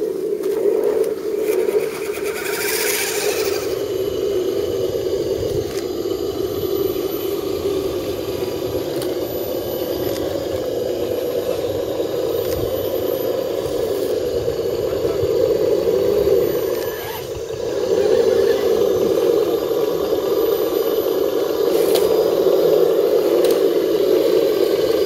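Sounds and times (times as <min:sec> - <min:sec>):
rc truck motors whining: 0:00.0 - 0:25.0.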